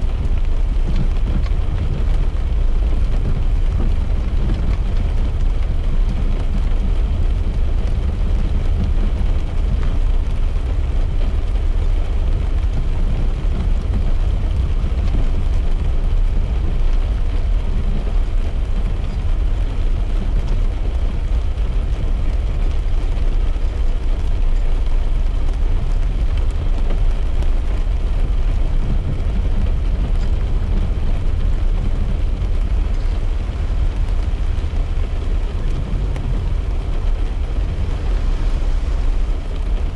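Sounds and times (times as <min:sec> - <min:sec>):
car driving on wet road: 0:00.0 - 0:39.9
light rain on car: 0:00.0 - 0:39.9.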